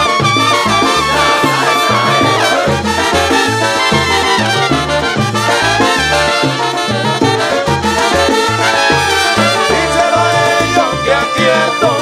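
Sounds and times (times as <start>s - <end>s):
bass line: 0.0s - 12.0s
percussion: 0.0s - 12.0s
trumpets playing: 0.0s - 12.0s.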